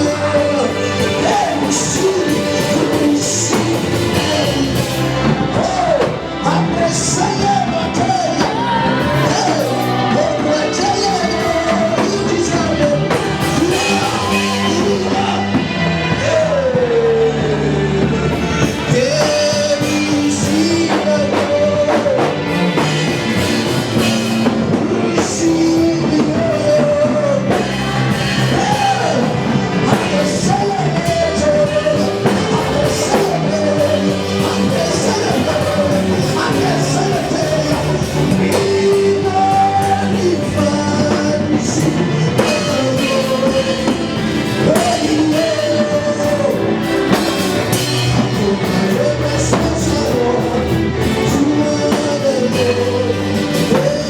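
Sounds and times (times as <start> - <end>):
gospel band playing: 0.0 - 54.0
person singing: 0.0 - 54.0.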